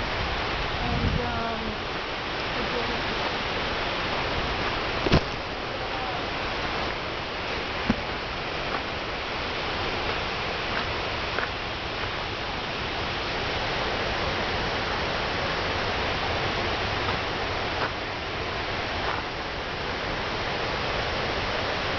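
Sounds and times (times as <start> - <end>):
river rapids rushing: 0.0 - 21.9.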